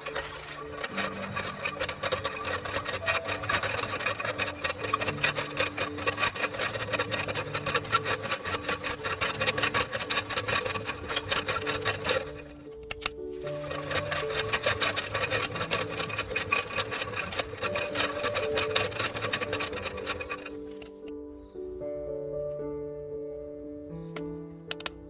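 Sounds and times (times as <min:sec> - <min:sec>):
rasping scrapes: 0:00.0 - 0:12.7, 0:13.4 - 0:21.1
background music: 0:00.0 - 0:25.0.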